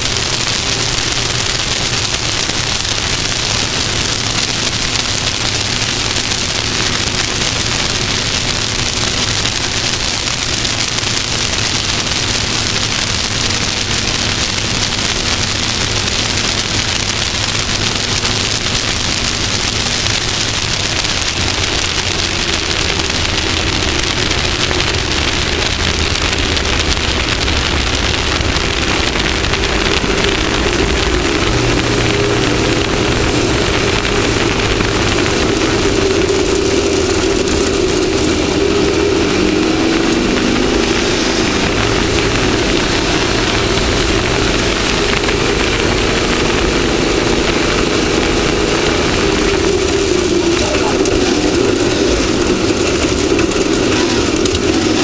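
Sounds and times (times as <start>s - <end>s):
vehicle engine running: 0.0s - 55.0s
wind and terrain noise: 0.0s - 55.0s.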